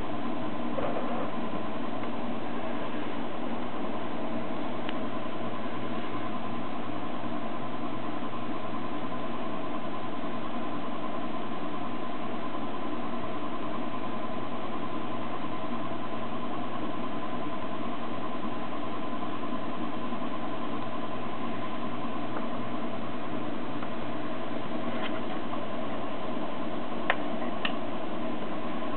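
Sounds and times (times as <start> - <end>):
machine hum and hiss: 0.0 - 28.9.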